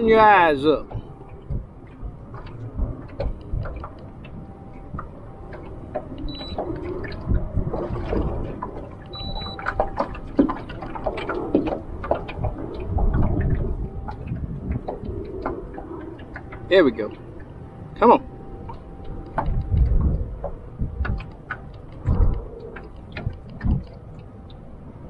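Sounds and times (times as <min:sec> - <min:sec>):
low wind rumble: 0:00.0 - 0:25.0
waves slapping boat hull: 0:00.0 - 0:25.0.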